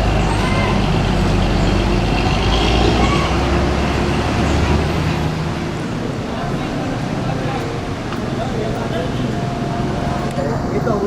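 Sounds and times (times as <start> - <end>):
bus diesel engine rumbling: 0.0 - 11.0
traffic noise: 0.0 - 11.0.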